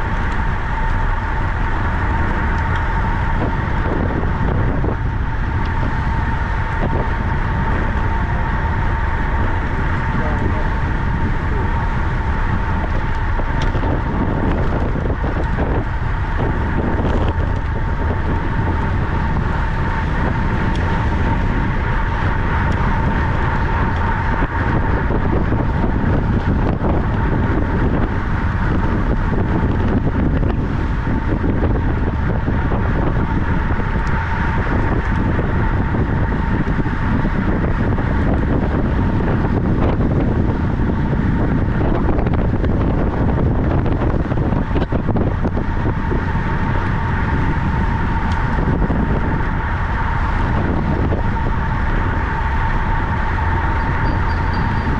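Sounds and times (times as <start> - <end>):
thin steady hum: 0.0 - 54.9
wind rushing over microphone: 0.0 - 54.9.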